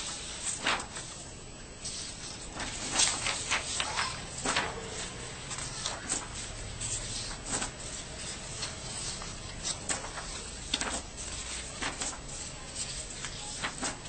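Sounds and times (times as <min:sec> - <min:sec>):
paper rustling and sliding: 0:00.0 - 0:14.0.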